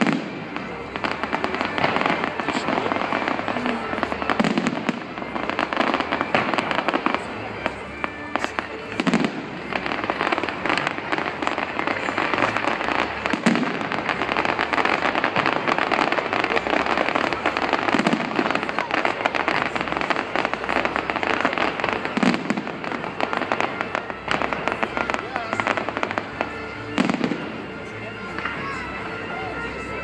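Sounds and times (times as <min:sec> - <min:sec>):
deep fireworks booms: 0:00.0 - 0:28.9
fireworks crackling: 0:00.0 - 0:30.0.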